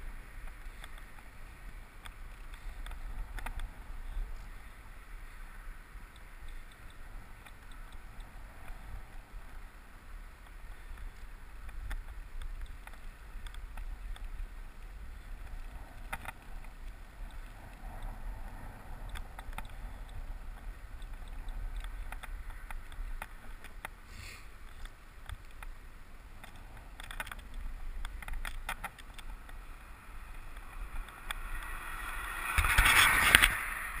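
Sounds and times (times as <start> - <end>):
bicycle tyres rumbling on road: 0.0 - 34.0
small bicycle rattles: 0.0 - 34.0
wind hiss: 0.0 - 34.0.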